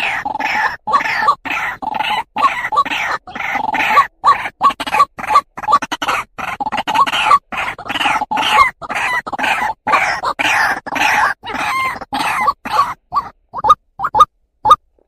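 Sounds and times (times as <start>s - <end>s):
waterhen harsh calls: 0.0s - 14.8s.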